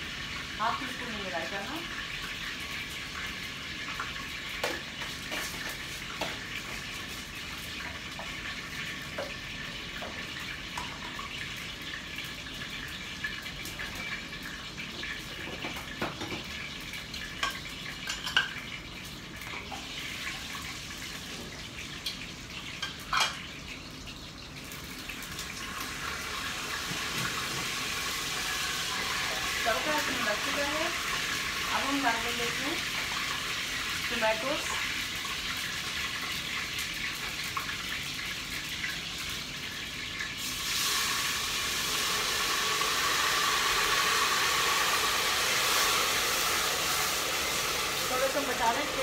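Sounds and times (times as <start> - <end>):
hot oil sizzling in a pot: 0.0 - 49.0.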